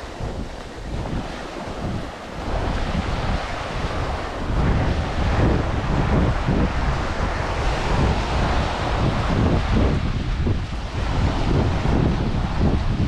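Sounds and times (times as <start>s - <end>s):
ocean surf on a beach: 0.0s - 13.0s
wind buffeting microphone: 0.0s - 13.0s.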